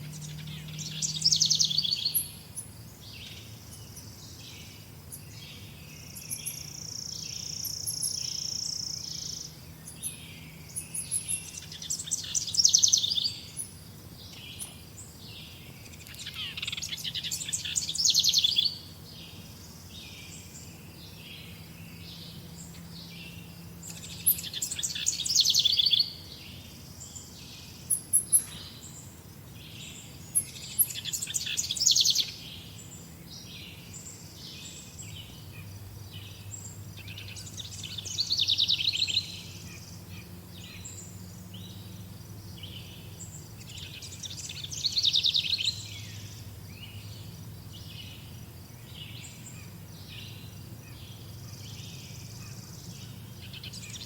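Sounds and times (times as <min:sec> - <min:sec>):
bird chirps: 0:00.0 - 0:54.0.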